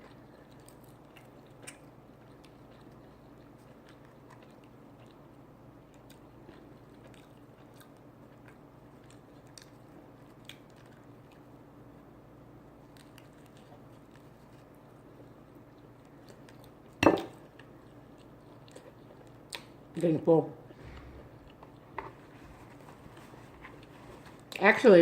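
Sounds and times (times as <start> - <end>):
person chewing food: 0.0 - 19.9, 20.7 - 24.6
low steady hum: 0.0 - 25.0.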